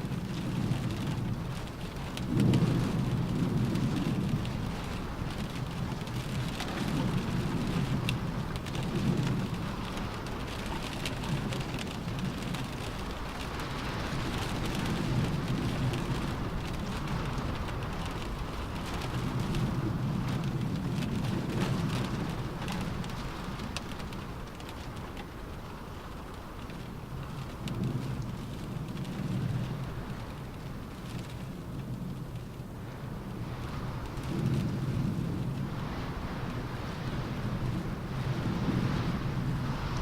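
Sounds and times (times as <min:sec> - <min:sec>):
rain on a car roof: 0:00.0 - 0:40.0.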